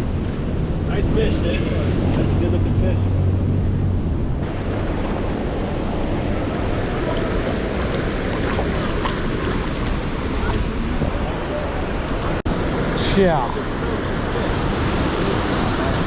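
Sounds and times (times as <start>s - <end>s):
flowing water rushing: 1.8s - 16.0s.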